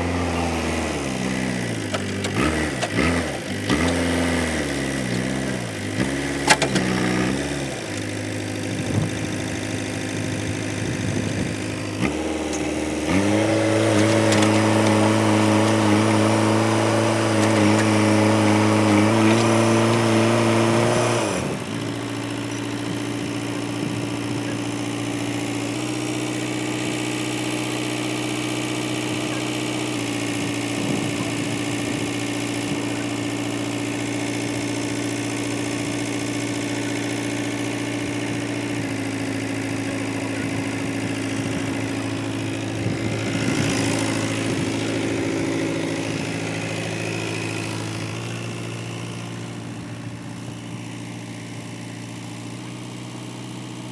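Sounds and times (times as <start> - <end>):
diesel engine revving and idling: 0.0 - 53.9.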